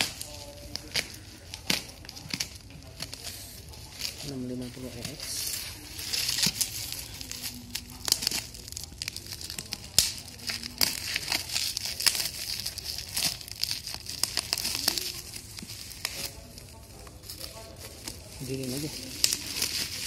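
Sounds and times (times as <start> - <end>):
bubble wrap crackling: 0.0 - 20.0
bubble wrap crinkling: 0.0 - 20.0.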